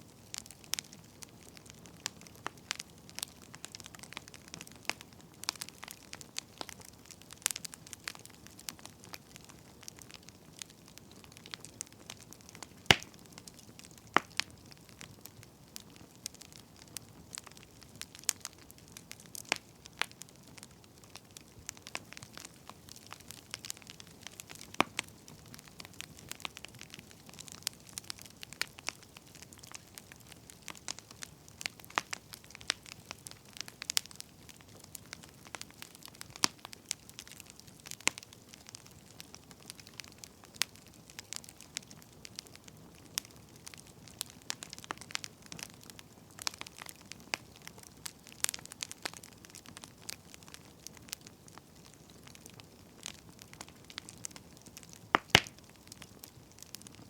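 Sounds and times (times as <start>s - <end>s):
firewood crackling and popping: 0.0s - 57.0s
low rumble of flames: 0.1s - 57.0s.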